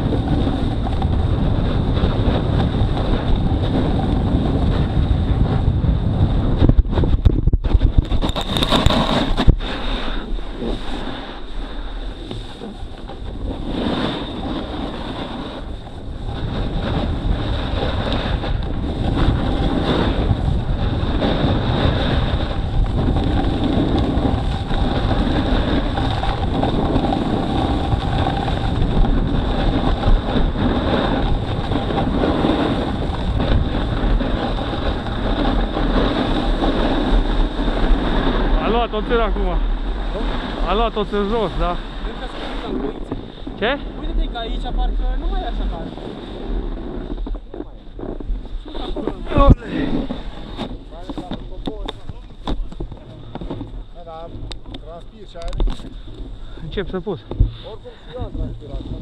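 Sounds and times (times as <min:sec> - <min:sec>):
wind buffeting microphone: 0:00.0 - 0:59.0
sharp crackles: 0:06.5 - 0:59.0.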